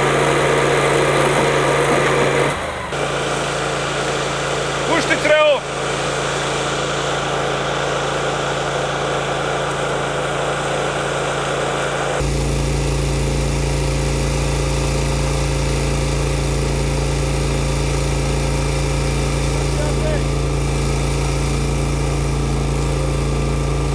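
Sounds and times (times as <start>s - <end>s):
engine humming: 0.0s - 23.9s.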